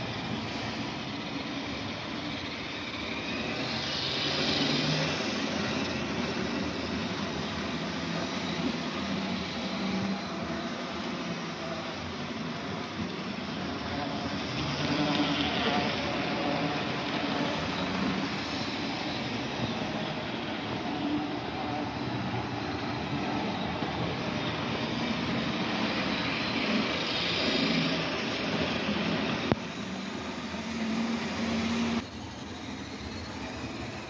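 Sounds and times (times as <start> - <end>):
model train motor hum: 0.0 - 34.0
wheels rattling on rails: 0.0 - 34.0.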